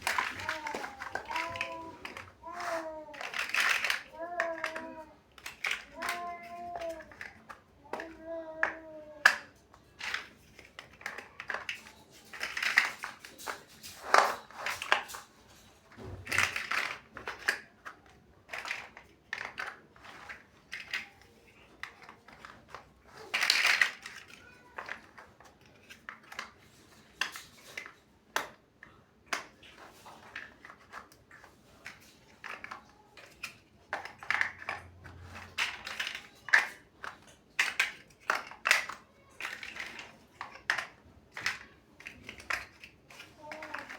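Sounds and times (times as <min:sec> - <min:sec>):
plastic bricks clicking together: 0:00.0 - 0:43.9.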